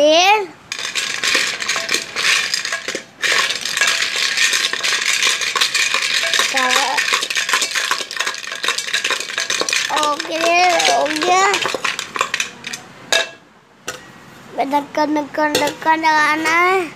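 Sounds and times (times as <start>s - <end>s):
toy blocks rattling in metal pot: 0.7s - 13.4s, 15.5s - 16.5s.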